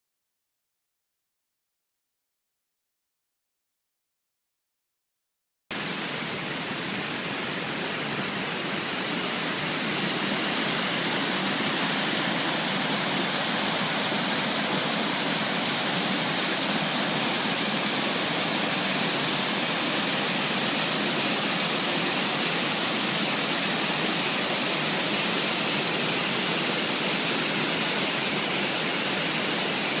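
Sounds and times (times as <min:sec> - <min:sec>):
waterfall rushing: 0:05.8 - 0:30.0.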